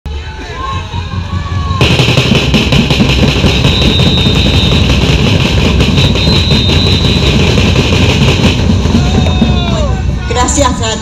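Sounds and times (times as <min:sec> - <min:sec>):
protest crowd din: 0:00.1 - 0:11.0.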